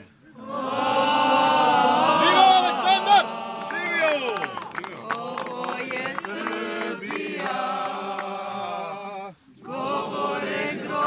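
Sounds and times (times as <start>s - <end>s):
crowd singing together: 0.2s - 11.0s.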